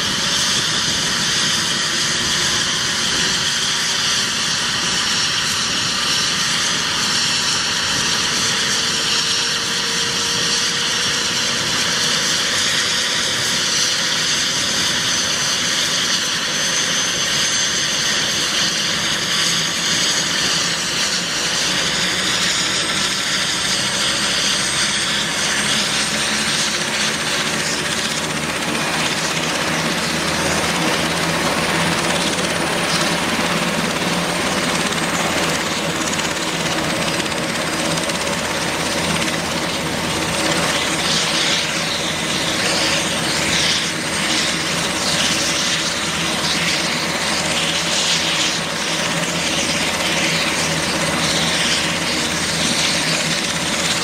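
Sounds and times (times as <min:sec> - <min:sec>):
helicopter rotor noise: 0:00.0 - 0:54.0
turbine whine: 0:00.0 - 0:54.0.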